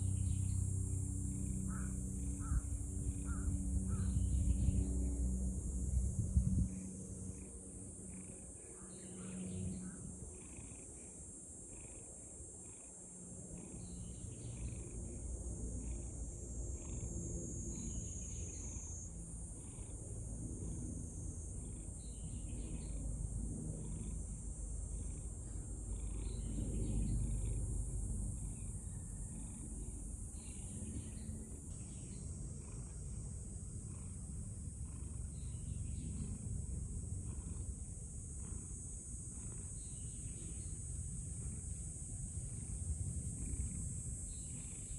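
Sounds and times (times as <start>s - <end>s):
cat purring: 0.8s - 13.0s, 13.6s - 18.9s, 21.5s - 44.9s.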